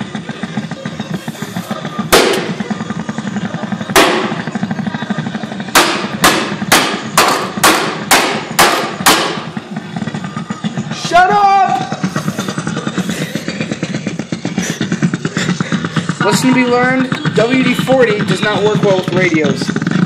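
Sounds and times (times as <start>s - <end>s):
steady low hum: 0.0s - 20.0s
sharp bangs: 1.9s - 20.0s.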